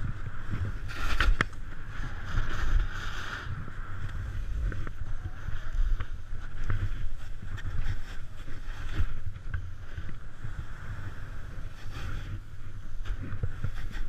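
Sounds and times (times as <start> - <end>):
snowboard scraping snow: 0.0 - 14.0
wind rumble on microphone: 0.0 - 14.0.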